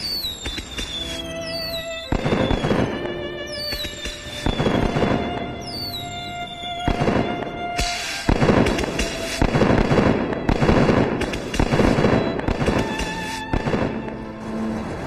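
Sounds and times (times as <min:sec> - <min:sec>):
fireworks crackling and popping: 0:00.0 - 0:14.2
background music: 0:00.0 - 0:15.0.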